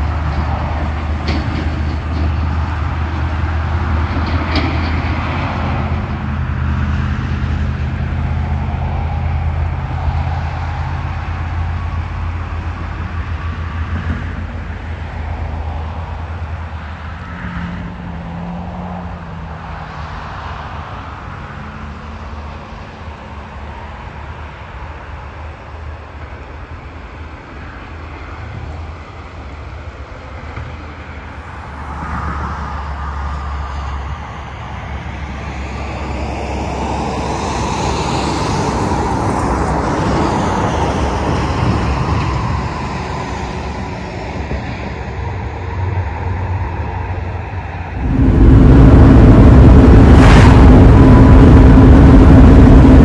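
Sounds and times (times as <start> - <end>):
road rumble inside a moving car: 0.0 - 53.0
traffic passing on a road: 0.0 - 53.0.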